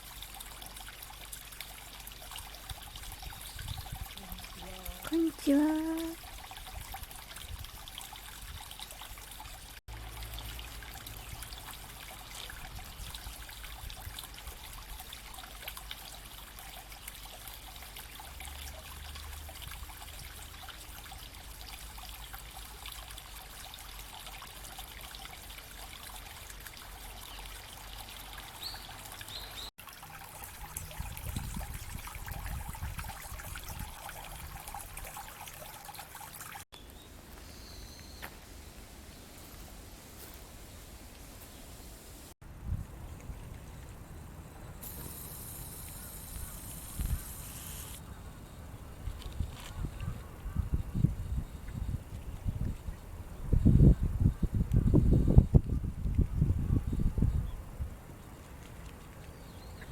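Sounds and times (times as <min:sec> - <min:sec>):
stream trickling and babbling: 0:00.0 - 0:59.9.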